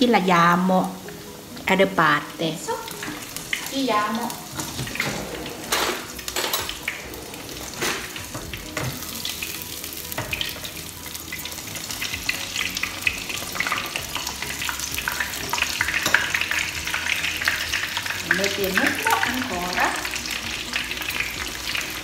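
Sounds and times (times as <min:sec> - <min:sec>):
cutlet sizzling in hot oil: 0:00.0 - 0:22.0.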